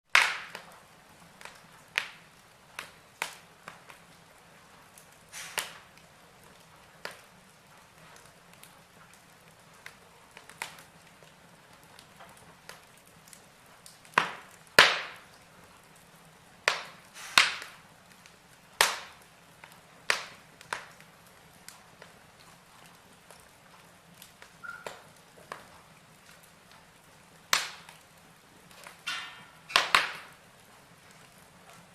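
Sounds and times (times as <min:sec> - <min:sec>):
faint steady hiss: 0:00.1 - 0:31.9
wood fire crackling and popping: 0:00.1 - 0:31.9.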